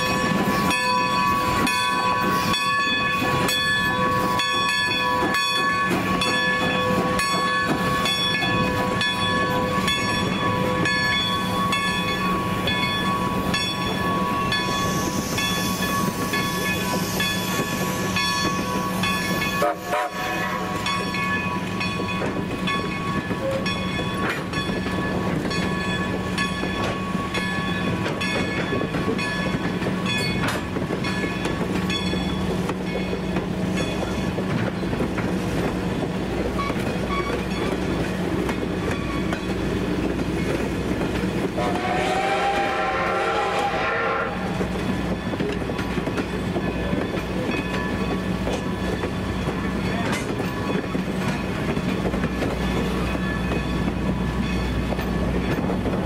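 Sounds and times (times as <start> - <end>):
railroad crossing bell ringing: 0.0 - 35.0, 35.8 - 56.0
steam locomotive rolling past: 0.0 - 56.0.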